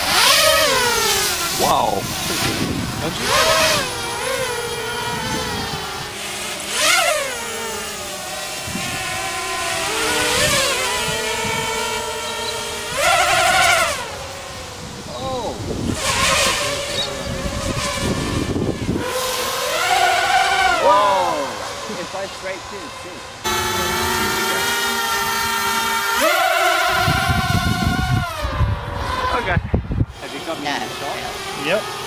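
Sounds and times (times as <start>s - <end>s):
quadcopter motors whining: 0.0s - 32.0s.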